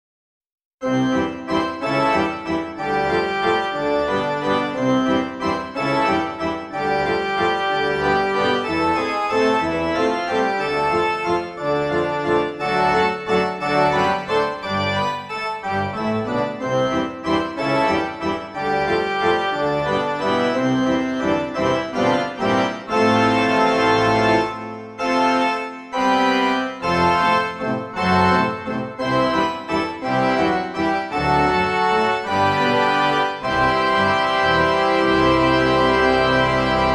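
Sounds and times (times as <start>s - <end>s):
instrumental music: 0.8s - 36.9s.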